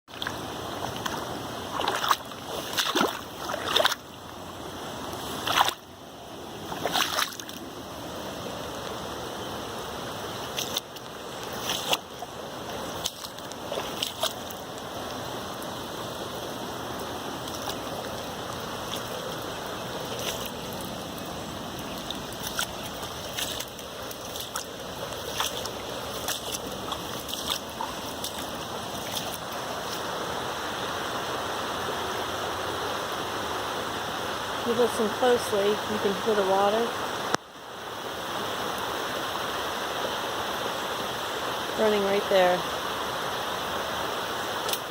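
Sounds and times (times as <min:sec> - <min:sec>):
running floodwater: 0:00.1 - 0:44.9.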